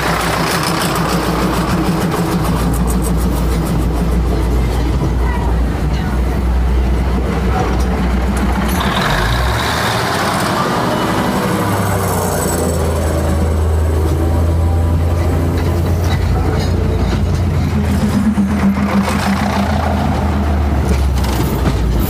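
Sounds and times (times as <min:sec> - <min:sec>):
heavy vehicle engine droning: 0:00.0 - 0:22.0.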